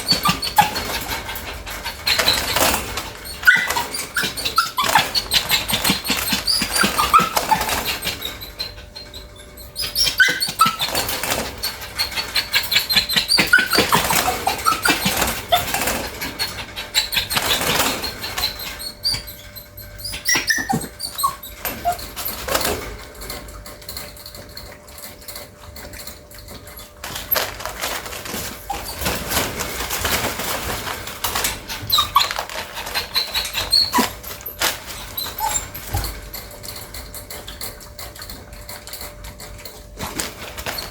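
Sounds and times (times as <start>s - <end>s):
dog whining: 0.0s - 40.9s
rapid clicks and scratching: 0.0s - 40.9s.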